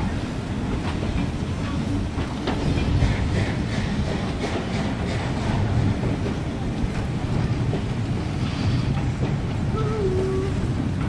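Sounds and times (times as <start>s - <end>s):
train carriages rumbling past: 0.0s - 11.0s
wheels clacking on track: 0.0s - 11.0s.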